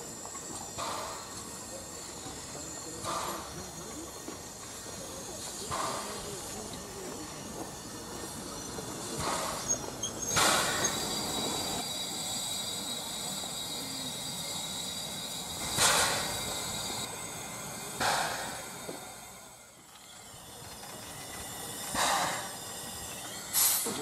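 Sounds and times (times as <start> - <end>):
steam locomotive hissing steam: 0.0 - 24.0.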